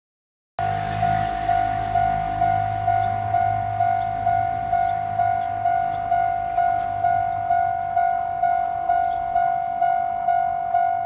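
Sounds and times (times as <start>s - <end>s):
level crossing warning bell ringing: 0.6s - 11.0s.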